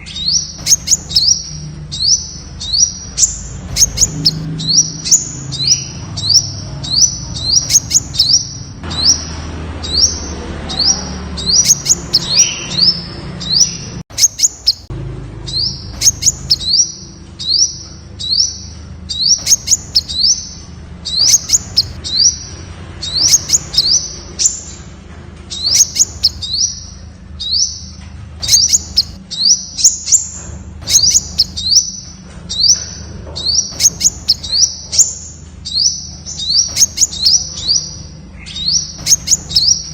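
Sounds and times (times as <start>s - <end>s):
bird calling high sharp notes: 0.0s - 14.9s, 15.5s - 24.8s, 25.5s - 39.9s.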